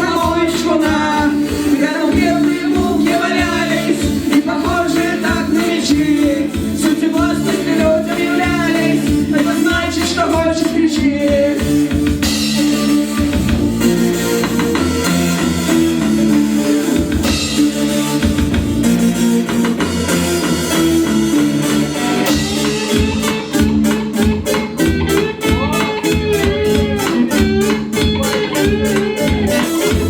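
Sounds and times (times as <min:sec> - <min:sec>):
rock band music: 0:00.0 - 0:30.0
steady drum beat: 0:00.0 - 0:30.0.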